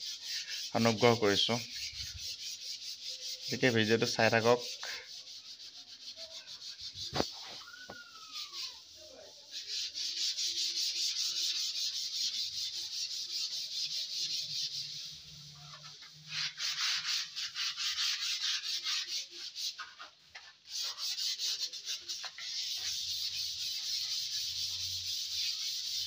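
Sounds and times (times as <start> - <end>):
sandpaper rubbing on putty: 0.0 - 7.6, 8.2 - 26.0.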